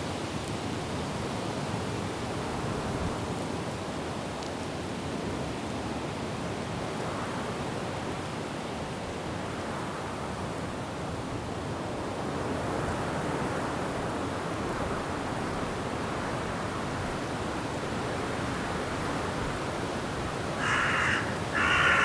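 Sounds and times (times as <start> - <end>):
wind blowing through trees: 0.0 - 22.0.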